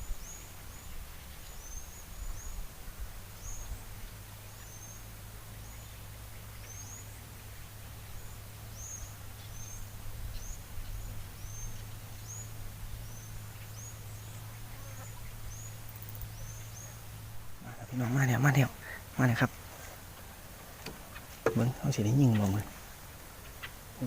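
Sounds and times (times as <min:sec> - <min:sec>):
small birds chip calls: 0:00.0 - 0:24.0
steady low hum: 0:00.0 - 0:24.0.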